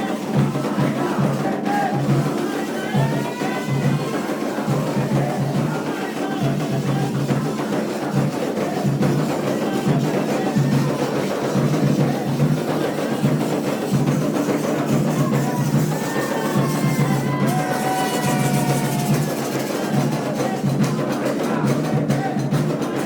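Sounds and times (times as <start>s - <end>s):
drums and percussion: 0.0s - 23.0s
faint singing: 0.0s - 23.0s.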